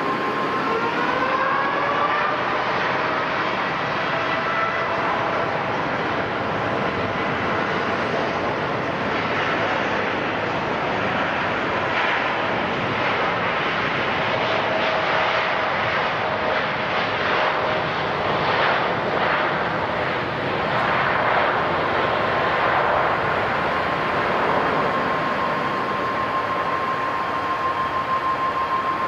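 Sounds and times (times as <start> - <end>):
faint engine whine: 0.0 - 29.0
jet engines roaring: 0.0 - 29.0.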